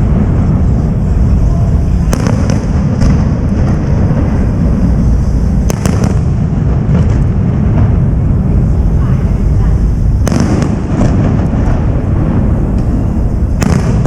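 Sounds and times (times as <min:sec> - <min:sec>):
fireworks rumbling: 0:00.0 - 0:14.0
sharp firework cracks: 0:00.0 - 0:14.0.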